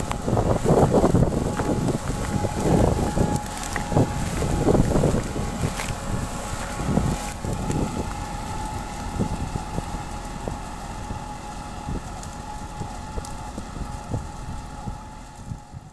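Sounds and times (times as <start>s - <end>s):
tractor diesel engine under load: 0.0s - 15.9s
wind buffeting microphone: 0.0s - 15.9s.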